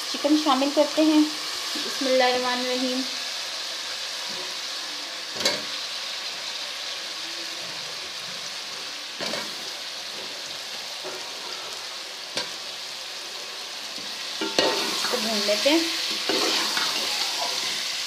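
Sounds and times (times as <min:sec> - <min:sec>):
masala sizzling in a steel pot: 0:00.0 - 0:18.0.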